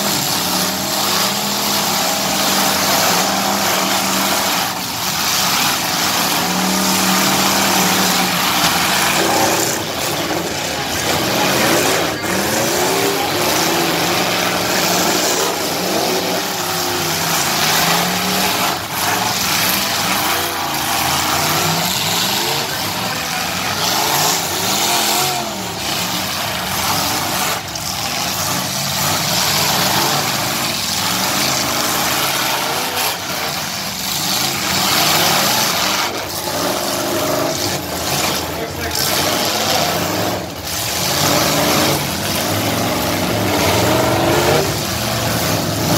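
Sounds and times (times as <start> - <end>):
engines revving hard: 0.0 - 45.9
vehicles crashing: 0.0 - 45.9.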